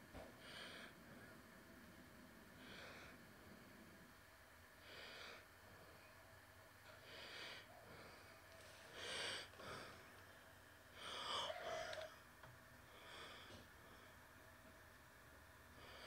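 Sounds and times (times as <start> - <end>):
soft breathing: 0.1 - 14.8, 15.6 - 16.0.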